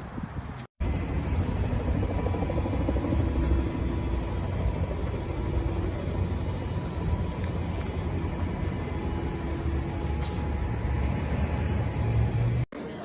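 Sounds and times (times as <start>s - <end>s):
faint steady tones: 0.8s - 12.7s.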